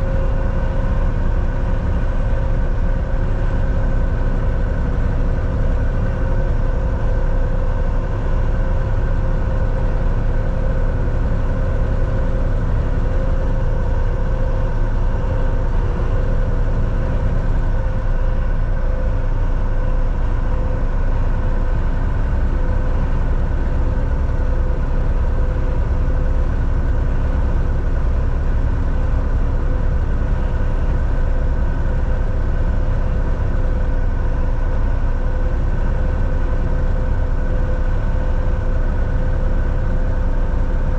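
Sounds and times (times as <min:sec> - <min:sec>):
constant hums: 0:00.0 - 0:40.9
road noise: 0:00.0 - 0:40.9
truck engine drone: 0:00.0 - 0:40.9.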